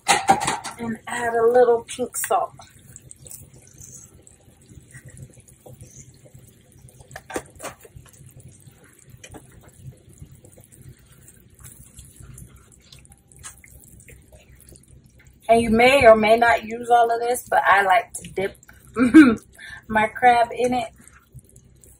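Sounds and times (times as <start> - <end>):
sauce bubbling in a pan: 0.3 - 21.9.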